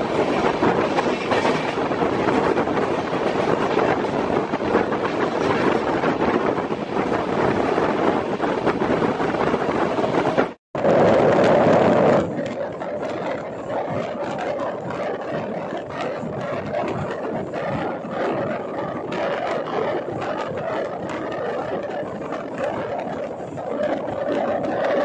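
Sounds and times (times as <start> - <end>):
rush of wind: 0.0 - 25.0
train coach rumbling: 0.0 - 25.0
wheels rattling on track: 0.0 - 25.0.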